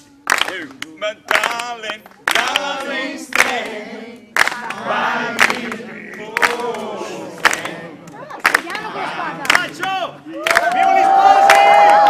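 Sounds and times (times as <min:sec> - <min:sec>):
crowd cheering and chanting: 0:00.0 - 0:12.0
sharp claps: 0:00.2 - 0:08.8, 0:09.4 - 0:12.0.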